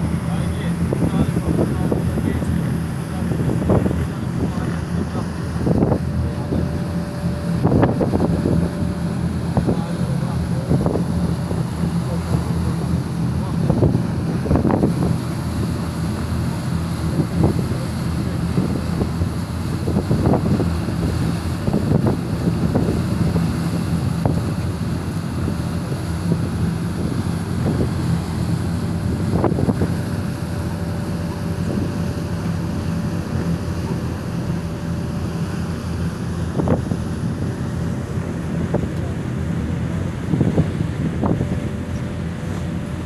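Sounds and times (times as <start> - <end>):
ferry engine drone: 0.0 - 43.0
water rushing in wake: 0.0 - 43.0
wind buffeting microphone: 0.0 - 43.0.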